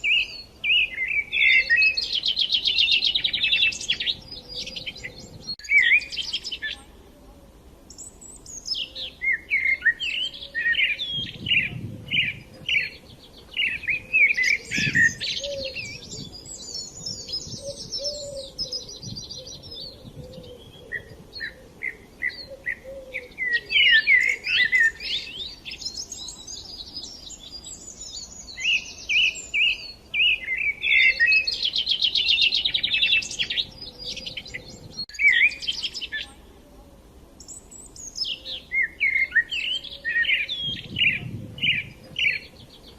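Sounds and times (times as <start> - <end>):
songbirds chirping and singing: 0.0 - 42.9.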